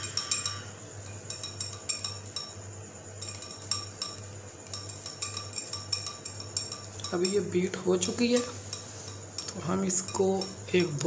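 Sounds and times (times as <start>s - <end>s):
utensil beating sauce clinking: 0.0s - 11.0s.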